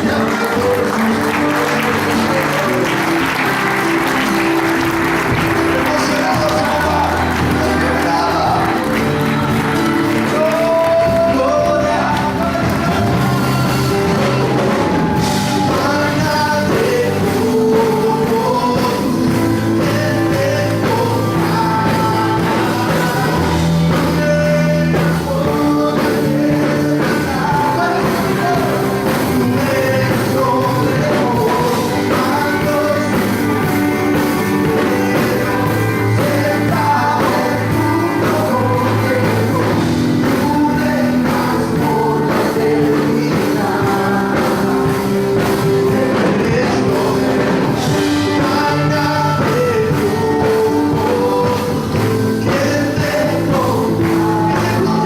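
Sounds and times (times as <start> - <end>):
band with drum kit: 0.0 - 55.0
person singing: 0.0 - 55.0.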